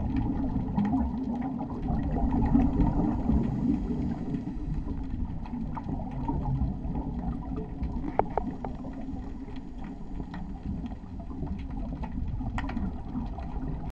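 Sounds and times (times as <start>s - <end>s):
low underwater rumble: 0.0s - 13.9s.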